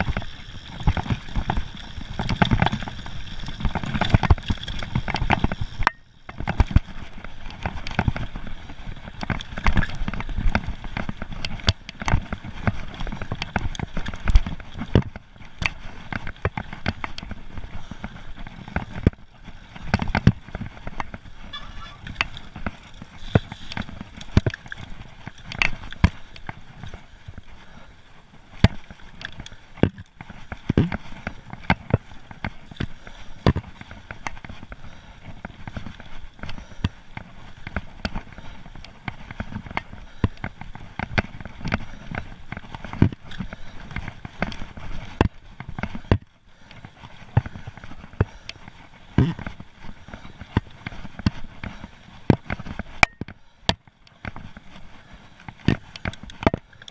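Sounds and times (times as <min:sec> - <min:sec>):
mountain bike rattling over rocks: 0:00.0 - 0:56.9.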